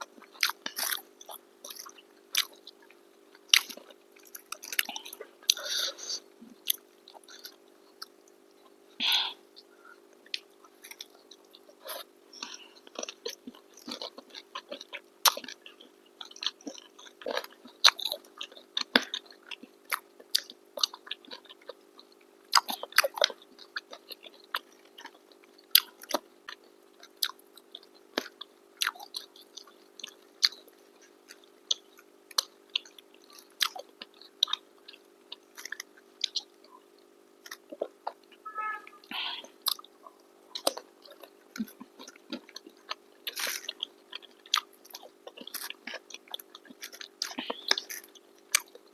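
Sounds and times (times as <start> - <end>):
people chewing with wet smacks: 0.0 - 38.4, 39.4 - 48.9
faint steady hum: 0.0 - 48.9.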